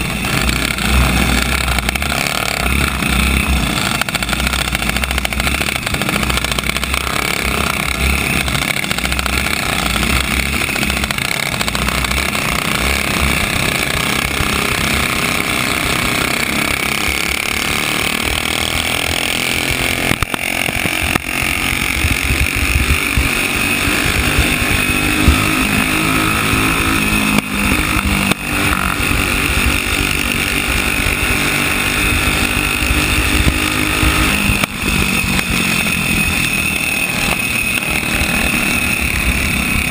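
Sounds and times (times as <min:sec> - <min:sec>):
kart engine running hard: 0:00.0 - 0:39.9
surrounding kart engines: 0:00.0 - 0:39.9.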